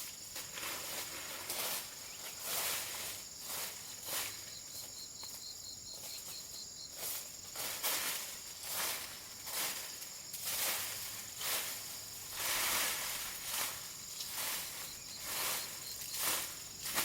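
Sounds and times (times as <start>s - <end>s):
rustling swishes of dry leaves: 0.0s - 5.4s, 6.0s - 17.0s
high insect drone: 0.0s - 17.0s.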